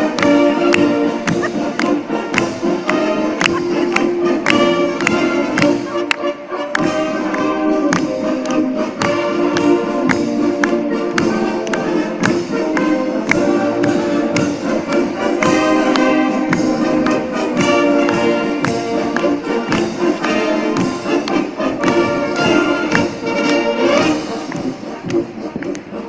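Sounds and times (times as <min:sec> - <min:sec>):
brass bands playing: 0:00.0 - 0:26.0
sharp percussion strokes: 0:00.0 - 0:26.0.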